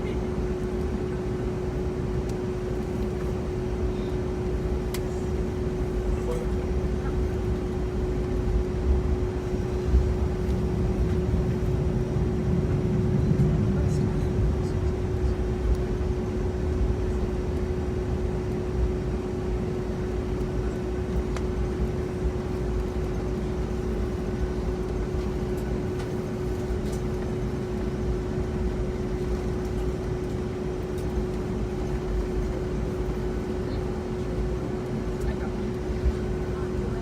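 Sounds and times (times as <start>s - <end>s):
aircraft engines idling: 0.0s - 37.0s
constant hum: 0.0s - 37.0s.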